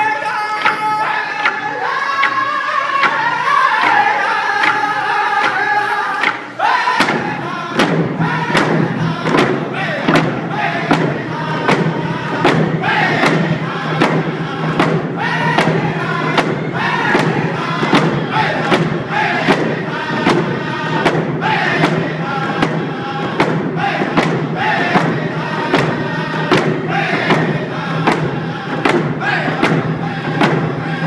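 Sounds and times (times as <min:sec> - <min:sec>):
group singing in unison: 0:00.0 - 0:31.0
steady drumbeat: 0:03.0 - 0:31.0.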